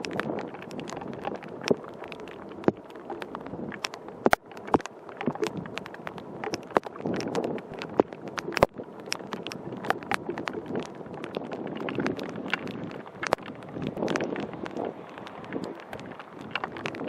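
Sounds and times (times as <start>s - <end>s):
raindrops tapping camera: 0.0s - 17.0s
wind buffeting microphone: 0.0s - 17.0s.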